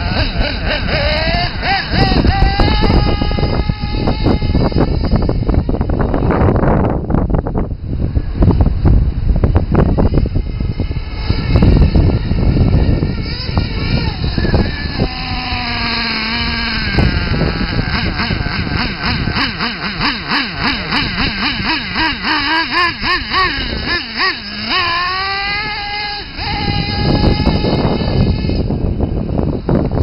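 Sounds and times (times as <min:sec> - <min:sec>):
rc car engine running: 0:00.0 - 0:30.0
wind on microphone: 0:00.0 - 0:30.0.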